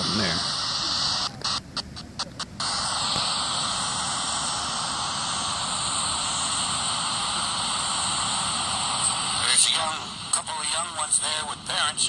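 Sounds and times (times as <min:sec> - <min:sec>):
static hiss from recorder: 0:00.0 - 0:12.0.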